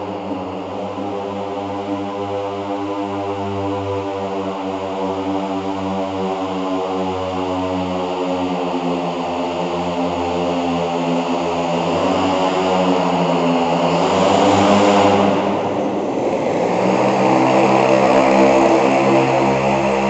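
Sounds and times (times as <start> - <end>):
propeller buzzing: 0.0 - 20.0.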